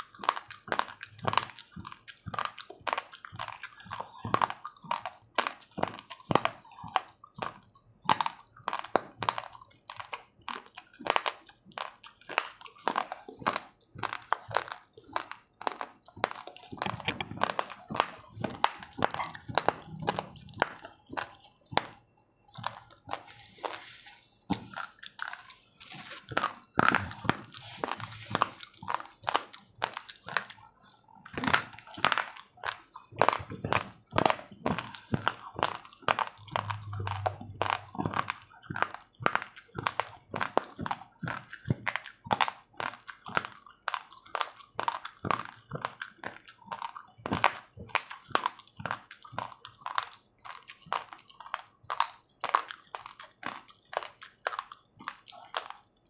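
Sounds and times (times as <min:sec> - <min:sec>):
raw rice being chewed: 0:00.0 - 0:56.0.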